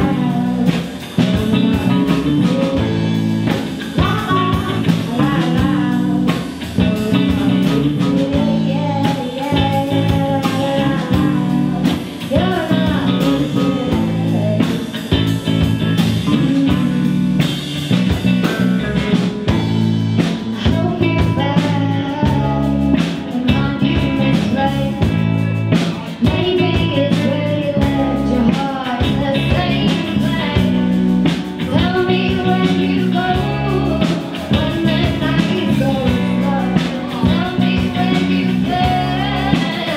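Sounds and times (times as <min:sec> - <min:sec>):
drum kit: 0:00.0 - 0:39.9
electric bass: 0:00.0 - 0:39.9
electric guitars: 0:00.0 - 0:39.9
woman singing lead: 0:00.0 - 0:39.9.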